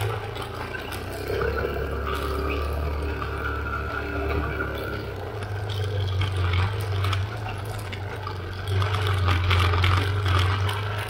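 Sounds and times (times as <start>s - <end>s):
tyres on gravel: 0.0s - 11.0s
vehicle engine droning: 0.0s - 11.0s.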